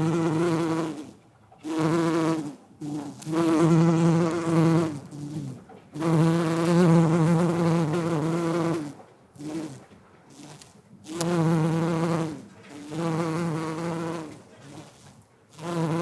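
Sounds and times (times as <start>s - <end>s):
bee buzzing in flight: 0.0s - 16.0s.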